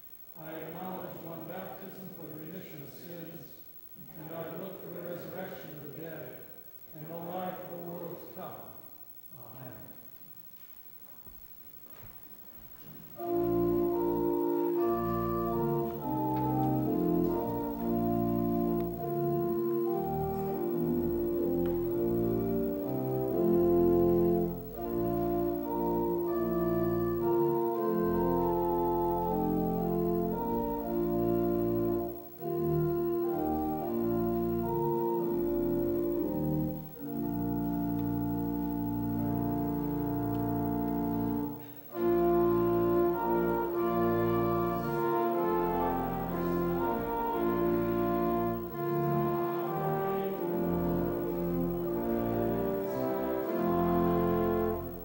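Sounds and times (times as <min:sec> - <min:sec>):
church organ playing a hymn: 0:00.0 - 0:08.8, 0:12.8 - 0:55.0.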